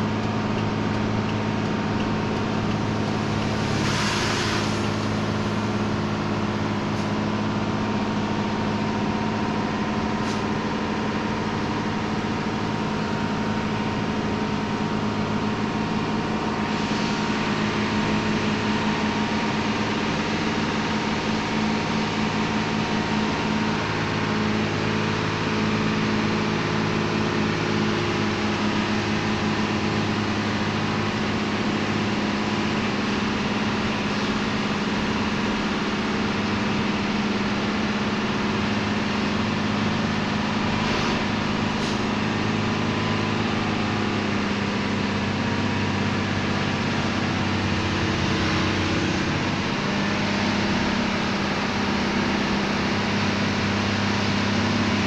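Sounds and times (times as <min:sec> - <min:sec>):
road rumble: 0:00.0 - 0:55.0
truck diesel engine drone: 0:00.0 - 0:55.0.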